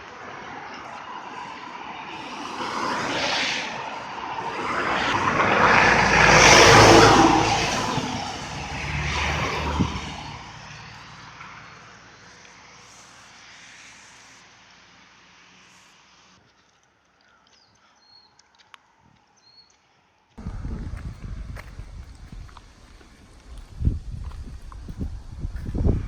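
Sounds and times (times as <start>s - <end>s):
vehicles passing by: 0.0s - 16.4s, 20.4s - 26.0s.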